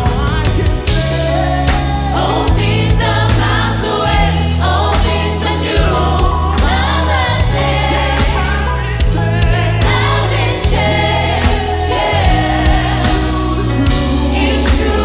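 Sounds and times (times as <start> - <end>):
bass line: 0.0 - 15.0
drum and cymbal hits: 0.0 - 15.0
gospel choir singing: 0.0 - 15.0.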